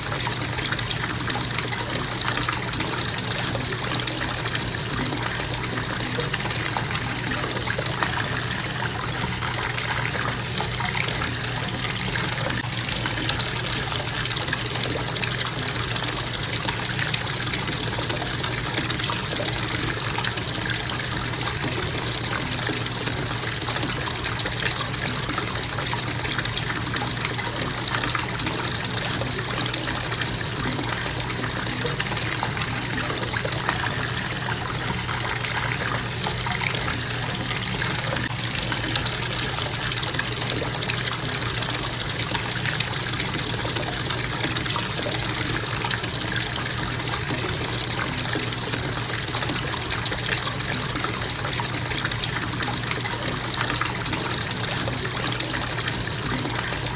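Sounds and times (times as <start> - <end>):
bathtub faucet running: 0.0 - 56.9
water splashing into tub: 0.0 - 56.9.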